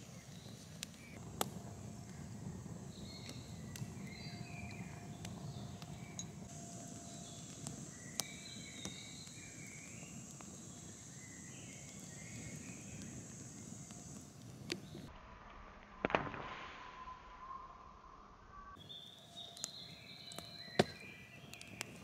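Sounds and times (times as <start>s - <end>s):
campfire crackling and popping: 0.0s - 15.1s, 18.8s - 22.0s
songbirds chirping: 0.0s - 15.1s, 18.7s - 22.0s.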